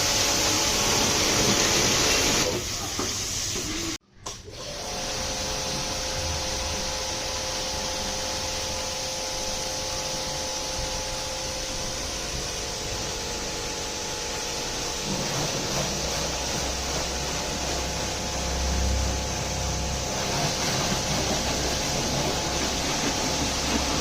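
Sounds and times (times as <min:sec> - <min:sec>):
pressure washer spraying water: 0:00.0 - 0:04.0, 0:04.6 - 0:24.0.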